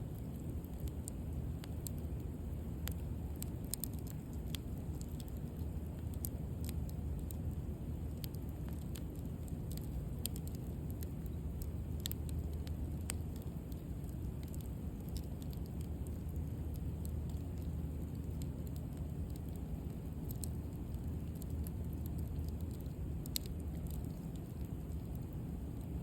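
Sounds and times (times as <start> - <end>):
low rumble of flames: 0.0 - 26.0
bonfire crackling and popping: 0.1 - 26.0.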